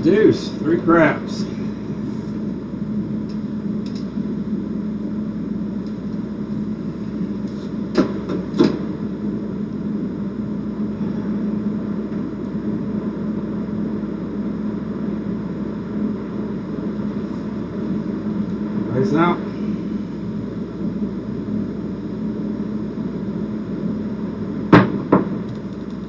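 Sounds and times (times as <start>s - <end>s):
background hum with low drone: 0.0s - 26.0s.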